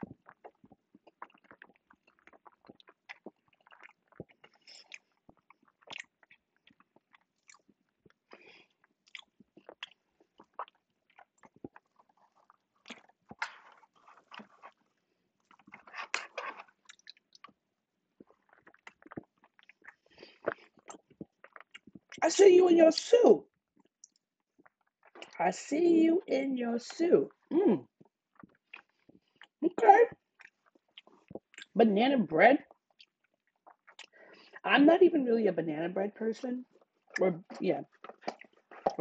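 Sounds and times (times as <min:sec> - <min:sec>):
close chewing with mouth clicks: 0:00.0 - 0:22.2, 0:23.0 - 0:25.4, 0:27.3 - 0:31.8, 0:32.6 - 0:34.6, 0:36.6 - 0:39.0.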